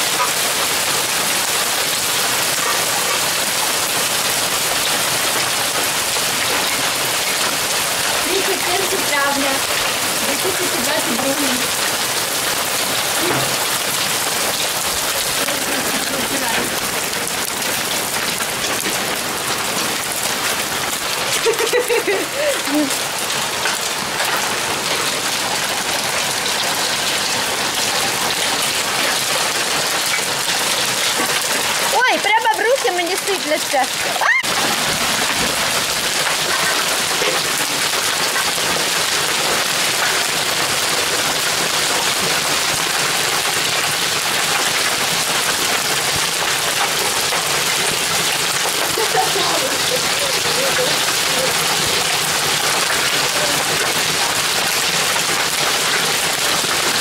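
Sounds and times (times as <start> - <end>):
heavy rain on grass: 0.0 - 57.0.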